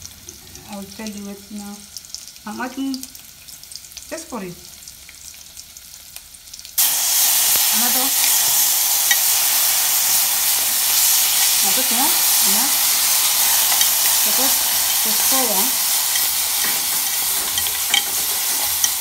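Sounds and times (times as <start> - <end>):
rice sizzling in hot oil: 0.0 - 19.0.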